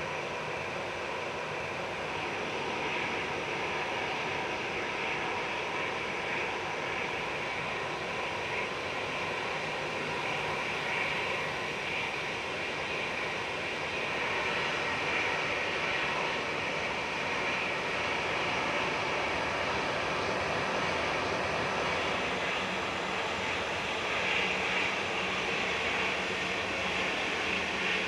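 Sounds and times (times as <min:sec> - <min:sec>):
airliner engines rushing: 0:00.0 - 0:28.0.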